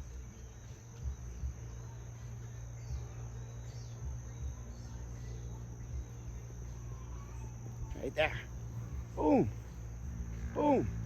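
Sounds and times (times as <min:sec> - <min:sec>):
high-pitched insect chorus: 0:00.0 - 0:11.0
low steady rumble: 0:00.0 - 0:11.0.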